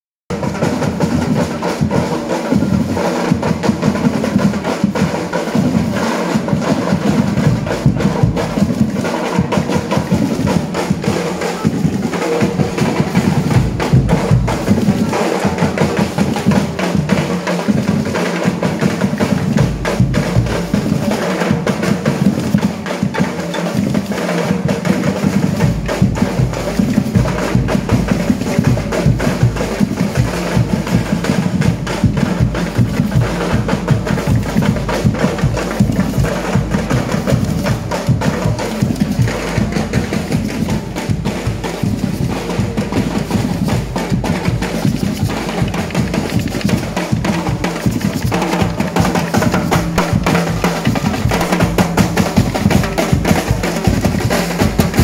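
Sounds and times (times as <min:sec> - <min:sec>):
drums playing driving rhythm: 0:00.3 - 0:55.0.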